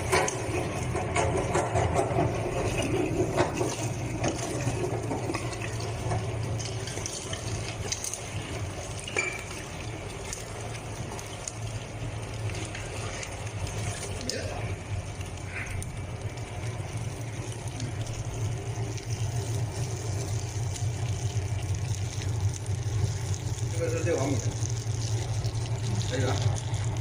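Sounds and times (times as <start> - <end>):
meat grinder motor humming: 0.0 - 27.0.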